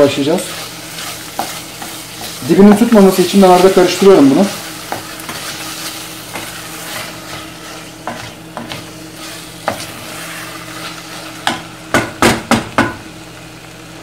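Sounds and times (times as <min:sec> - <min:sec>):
wooden spoon stirring tomatoes: 0:00.0 - 0:11.7
low sizzle: 0:00.0 - 0:14.0.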